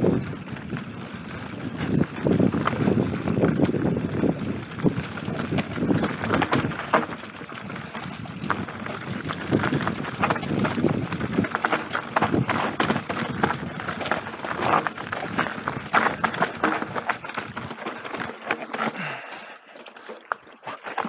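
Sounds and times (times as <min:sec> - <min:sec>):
wind on microphone: 0:00.0 - 0:17.8
bike clattering over bumps: 0:00.0 - 0:19.5
bike tyres on dirt and stones: 0:00.0 - 0:21.0.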